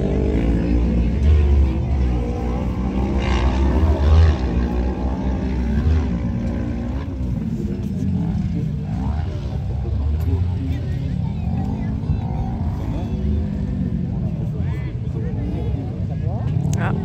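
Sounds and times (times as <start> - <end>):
motorcycle engine racing: 0.0 - 17.0.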